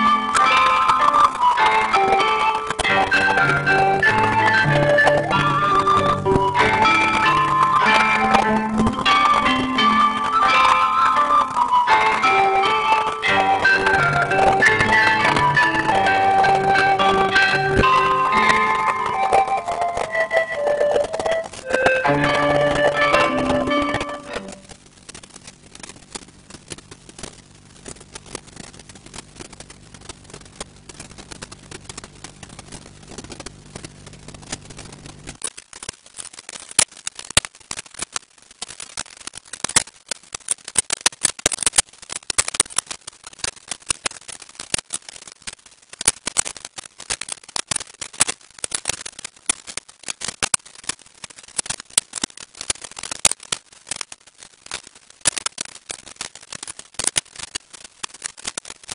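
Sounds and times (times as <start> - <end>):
crackling clicks: 0.0 - 58.9.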